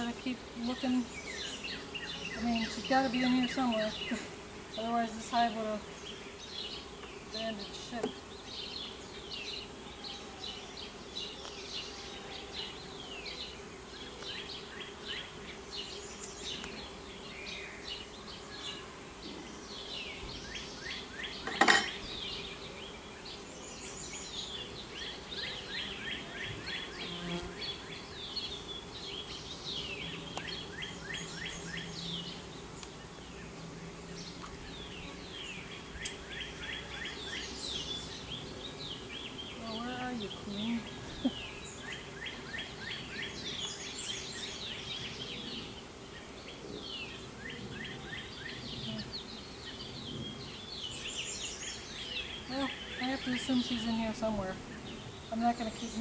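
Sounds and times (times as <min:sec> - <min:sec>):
honeybees buzzing: 0:00.0 - 0:56.0
songbirds chirping: 0:00.0 - 0:56.0.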